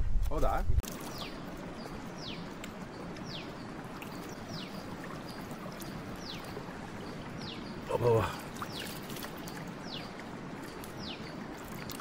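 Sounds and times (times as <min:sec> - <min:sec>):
flowing water rushing: 0:00.8 - 0:12.0.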